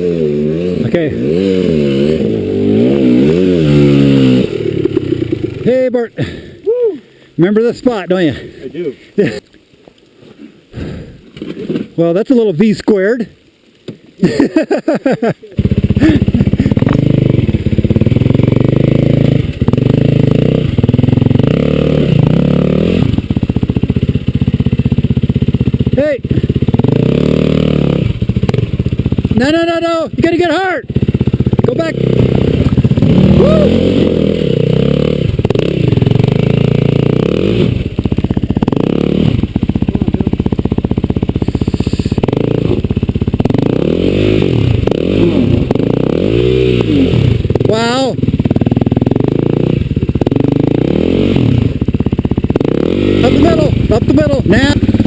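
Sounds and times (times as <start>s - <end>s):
dirt bike engine revving: 0.0s - 6.6s, 14.2s - 55.0s.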